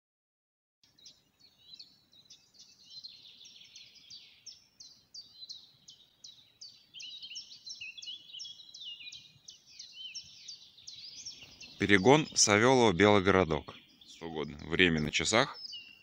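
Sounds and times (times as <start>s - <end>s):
songbirds chirping and whistling: 0.8s - 16.0s.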